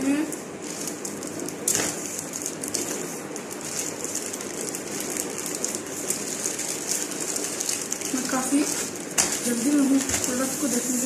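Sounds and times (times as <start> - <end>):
plastic bag crinkling and rustling: 0.4 - 11.0.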